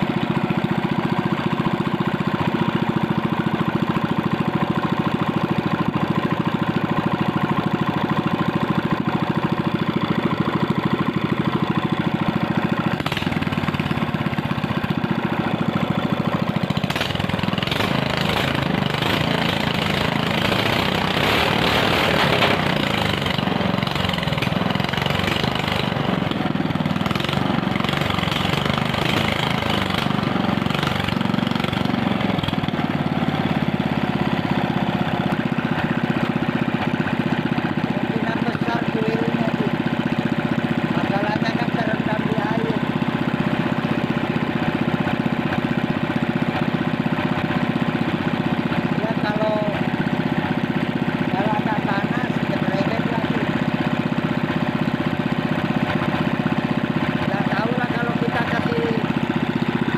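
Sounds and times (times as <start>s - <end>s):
small engine idling: 0.0s - 59.9s.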